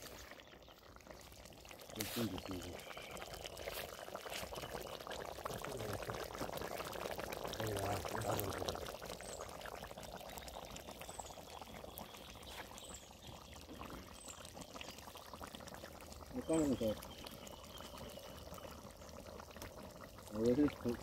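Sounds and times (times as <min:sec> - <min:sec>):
thick curry bubbling in a pot: 0:00.0 - 0:21.0.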